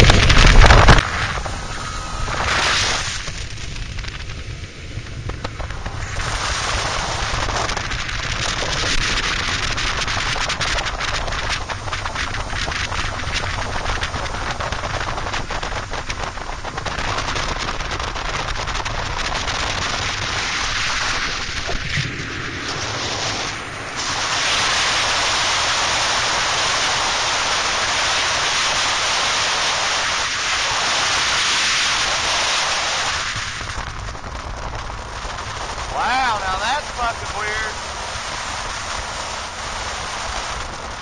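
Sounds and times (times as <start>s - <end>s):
rushing water and spray: 0.0s - 41.0s
wind buffeting microphone: 0.0s - 41.0s.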